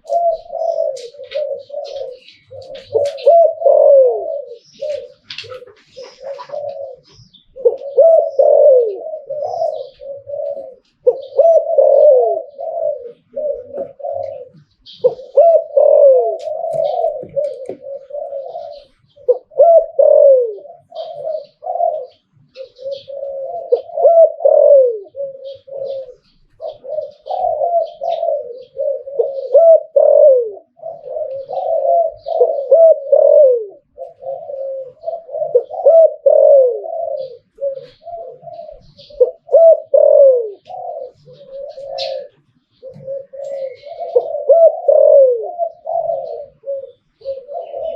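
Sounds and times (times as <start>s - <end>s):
dove cooing: 0.0s - 47.9s
small birds chirping: 0.0s - 47.9s.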